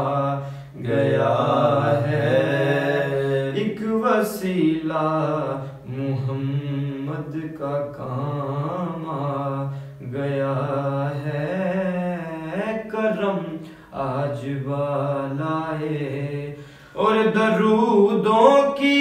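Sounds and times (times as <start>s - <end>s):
man reciting melodically: 0.0s - 19.0s.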